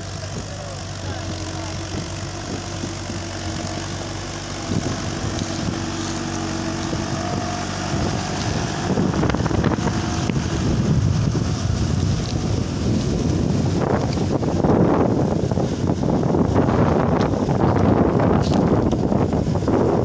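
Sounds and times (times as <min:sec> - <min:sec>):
tractor diesel engine running: 0:00.0 - 0:20.0
wind buffeting microphone: 0:00.0 - 0:20.0.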